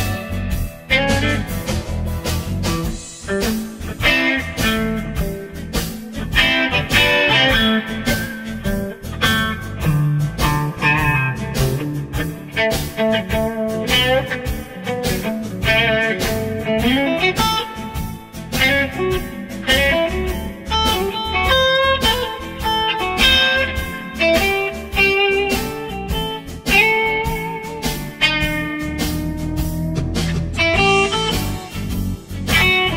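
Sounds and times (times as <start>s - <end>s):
blues guitar over a beat: 0.0s - 32.9s.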